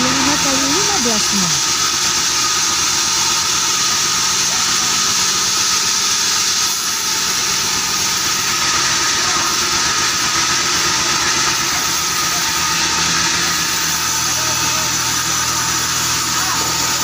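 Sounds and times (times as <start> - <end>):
band saw machinery droning: 0.0 - 17.0.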